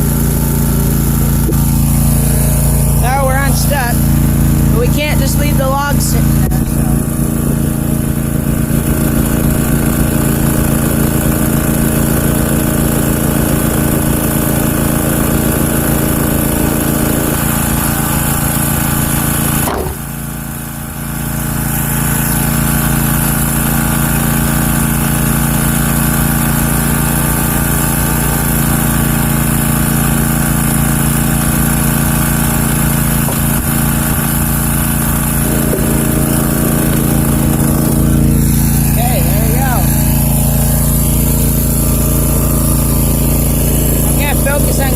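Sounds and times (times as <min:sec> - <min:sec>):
mower engine running: 0:00.0 - 0:44.9.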